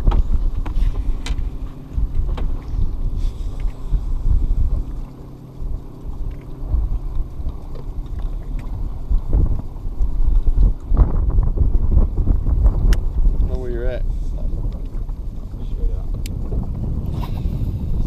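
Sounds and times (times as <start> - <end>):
wind buffeting a microphone: 0.0 - 18.0.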